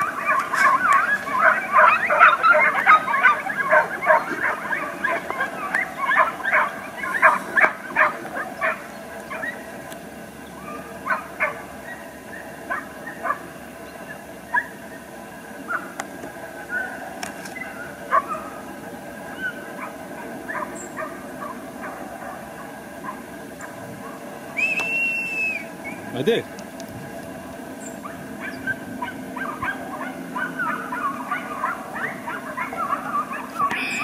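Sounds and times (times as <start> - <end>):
dogs barking and yelping: 0.0 - 9.9, 10.5 - 26.1, 27.8 - 34.0.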